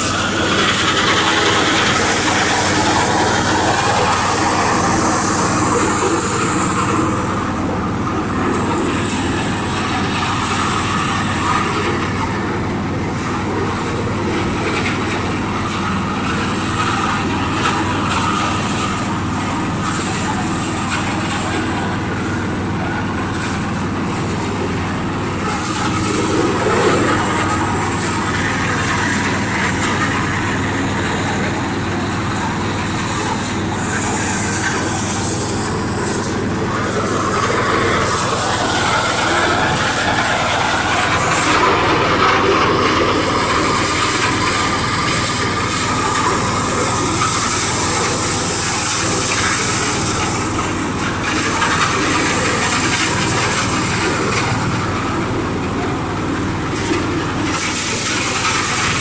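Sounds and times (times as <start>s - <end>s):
rice milling machine running: 0.0s - 59.0s.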